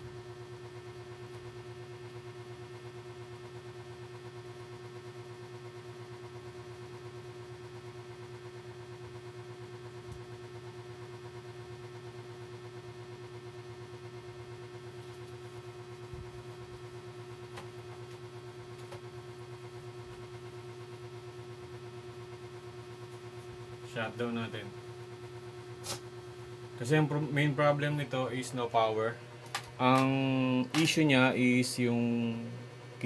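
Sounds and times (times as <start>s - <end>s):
pulsing mechanical hum: 0.0s - 33.0s.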